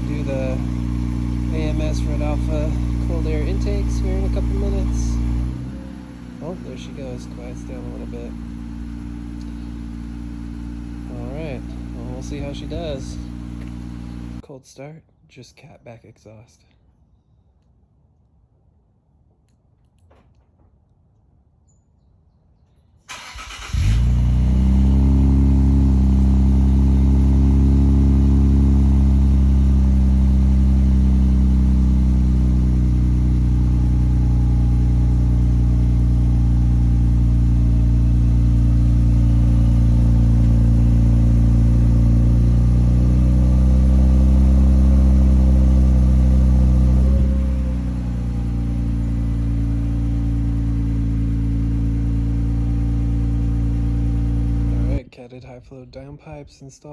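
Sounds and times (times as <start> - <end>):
car engine cranking: 0.0 - 14.4, 23.1 - 55.0
car engine fast idle: 0.0 - 14.4, 23.1 - 55.0.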